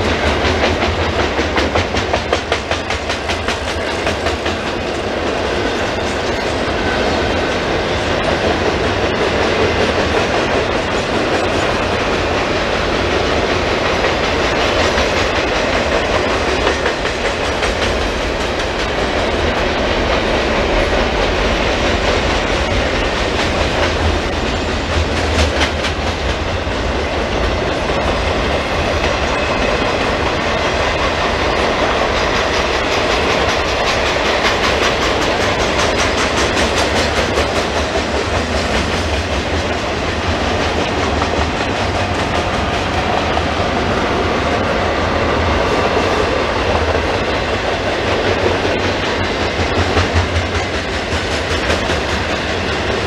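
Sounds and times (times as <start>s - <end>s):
train cars rumbling on rails: 0.0s - 53.0s
wheels clacking over rail joints: 0.0s - 53.0s.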